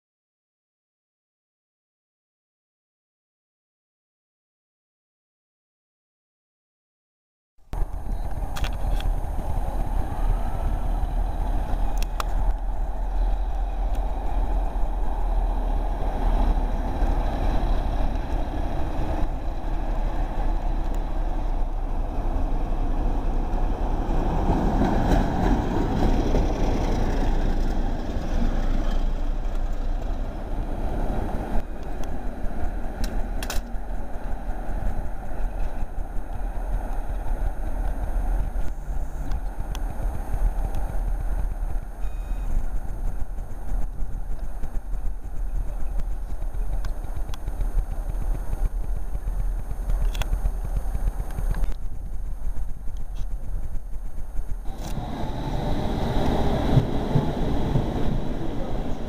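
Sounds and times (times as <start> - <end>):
diesel locomotive passing: 7.8 - 59.0.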